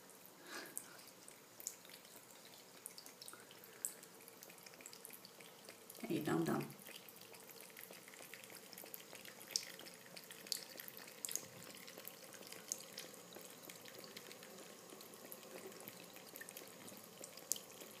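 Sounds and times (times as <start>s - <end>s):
drip-like ticks: 0.8s - 18.0s.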